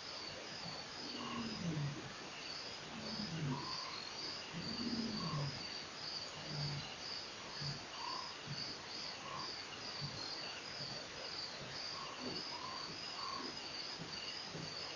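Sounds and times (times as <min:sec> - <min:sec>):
crickets chirping: 0:00.0 - 0:14.9.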